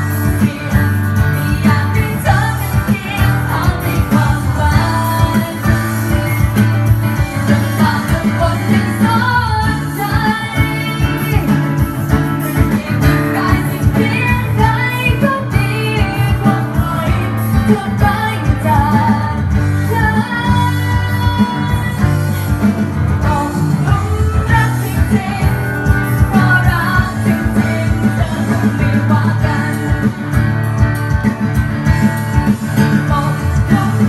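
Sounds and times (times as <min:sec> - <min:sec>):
woman singing into microphone: 0:00.0 - 0:30.5, 0:32.5 - 0:34.0
acoustic guitar: 0:00.0 - 0:34.0.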